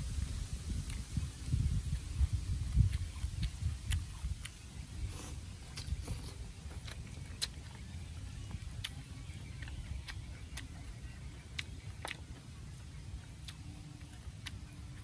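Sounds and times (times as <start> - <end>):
steady low rumble: 0.0 - 15.0
chewing clicks and smacks: 2.7 - 15.0.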